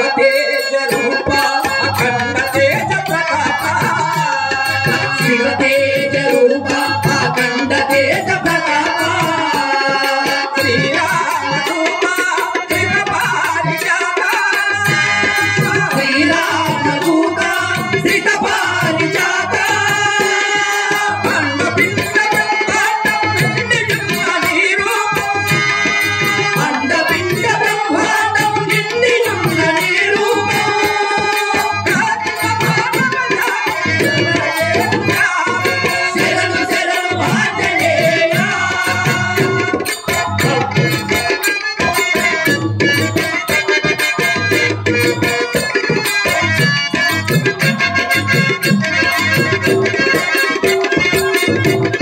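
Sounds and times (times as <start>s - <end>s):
harmonium melody: 0.0s - 52.0s
tabla: 0.0s - 52.0s.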